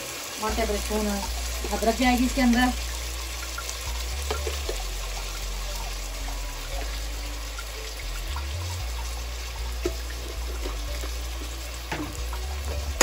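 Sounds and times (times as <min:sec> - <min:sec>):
food sizzling in hot oil: 0:00.0 - 0:13.0
low hum: 0:00.5 - 0:13.0.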